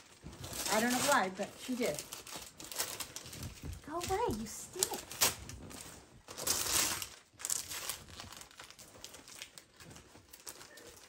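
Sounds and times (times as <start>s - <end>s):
wrapping paper crinkling and tearing: 0.0s - 11.0s.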